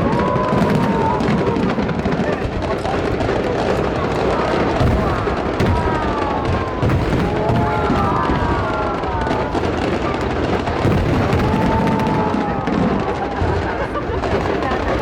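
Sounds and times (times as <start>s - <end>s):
fireworks bursts and booms: 0.0s - 15.0s.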